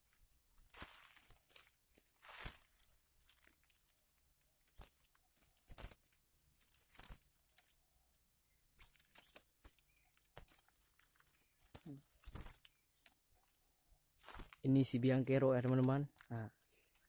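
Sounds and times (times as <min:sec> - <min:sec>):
rustling and crackling: 0:00.0 - 0:17.0.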